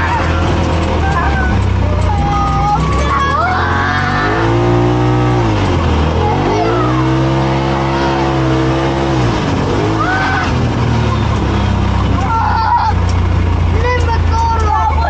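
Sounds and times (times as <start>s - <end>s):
utv engine revving: 0.0s - 15.0s.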